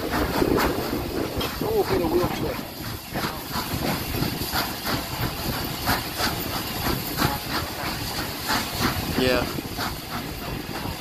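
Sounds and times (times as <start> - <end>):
steam engine beats: 0.0 - 11.0
steam hissing: 0.0 - 11.0
train rumbling: 0.0 - 11.0.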